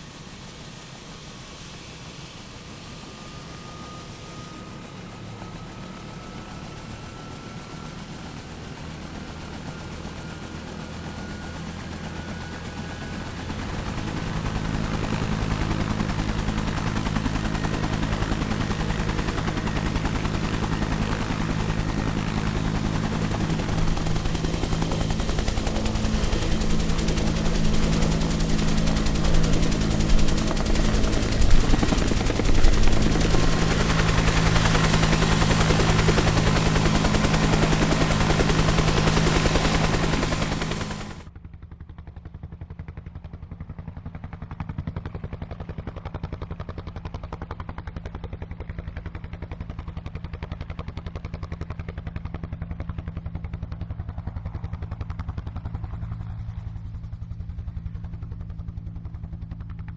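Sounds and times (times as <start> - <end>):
helicopter rotor chopping: 0.0 - 59.9.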